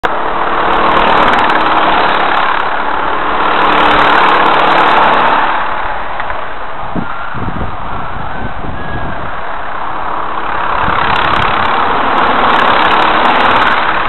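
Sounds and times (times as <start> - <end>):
racing kart engines buzzing: 0.0 - 14.0.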